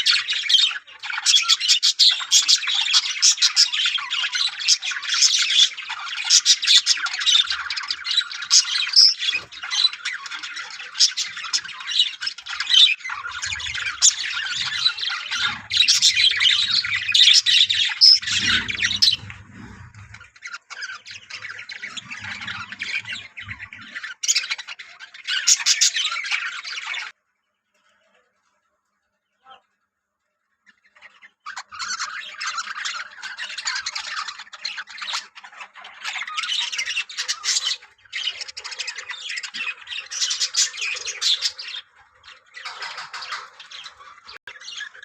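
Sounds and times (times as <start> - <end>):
budgerigars chattering: 0.0 - 27.0, 31.6 - 45.0.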